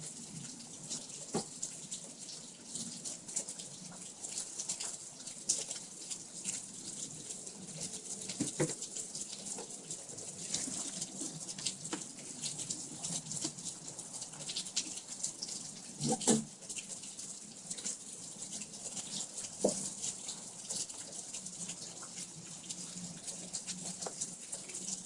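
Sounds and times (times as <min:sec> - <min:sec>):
drips and patters: 0:00.0 - 0:25.0
rain hissing: 0:00.0 - 0:25.0.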